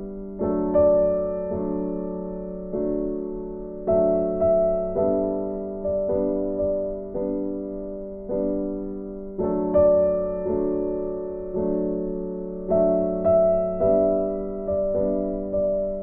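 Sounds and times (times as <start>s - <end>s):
calm instrumental music: 0.0s - 16.0s.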